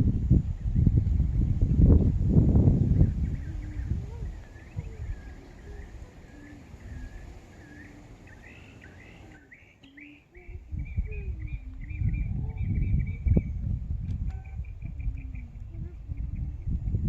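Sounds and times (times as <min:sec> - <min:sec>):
wind rumble on microphone: 0:00.0 - 0:09.4, 0:10.3 - 0:17.0
songbirds chirping and singing: 0:00.4 - 0:17.0.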